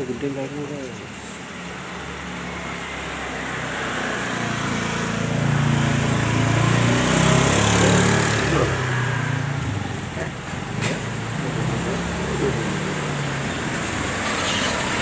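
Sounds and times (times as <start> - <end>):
passing motorbike engine: 2.5 - 15.0.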